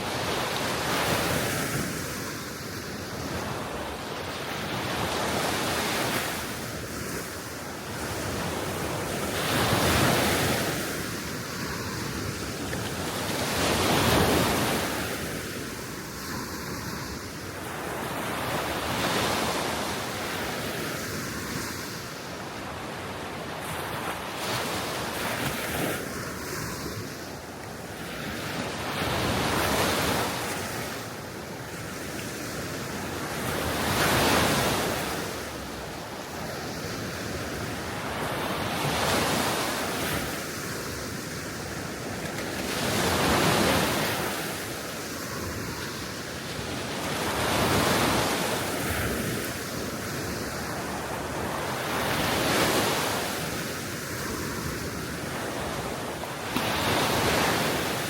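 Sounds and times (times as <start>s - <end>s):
sea waves washing ashore: 0.0s - 58.0s
steady wind: 0.0s - 58.0s.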